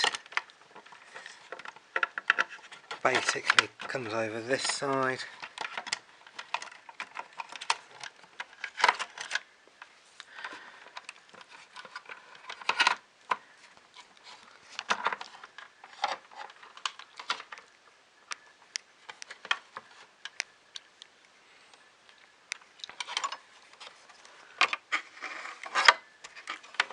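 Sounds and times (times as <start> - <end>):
plastic parts clicking: 0.0 - 13.4, 14.0 - 21.0, 22.1 - 26.9.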